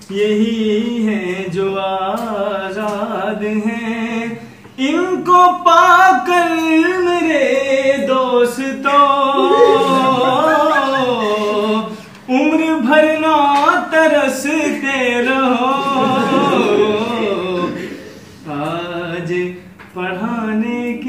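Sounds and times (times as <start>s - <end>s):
young man singing unaccompanied: 0.0s - 17.8s, 18.4s - 21.0s.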